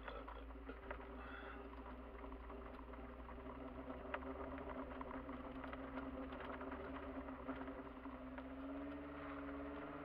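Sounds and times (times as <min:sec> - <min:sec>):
muffled engine at low revs: 0:00.0 - 0:10.0.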